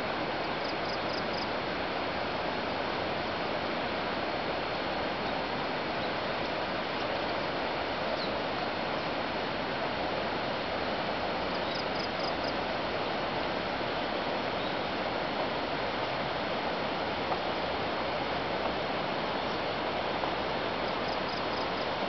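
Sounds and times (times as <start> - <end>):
distant river rushing: 0.0 - 22.0.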